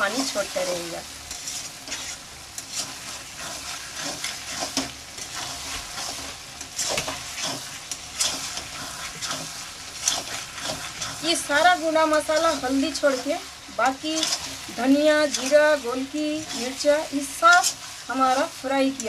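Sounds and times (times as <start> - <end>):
food sizzling in metal pan: 0.0 - 19.0
metal spatula scraping pan: 1.3 - 19.0.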